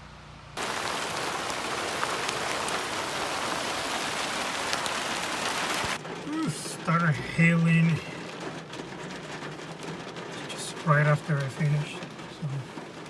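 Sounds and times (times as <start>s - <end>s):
hail hitting surfaces: 0.6s - 13.0s.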